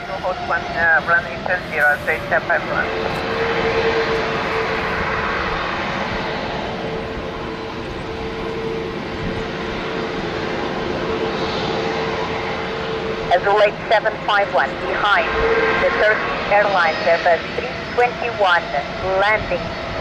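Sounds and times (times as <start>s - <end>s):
jet airliner engine rush: 0.0s - 20.0s.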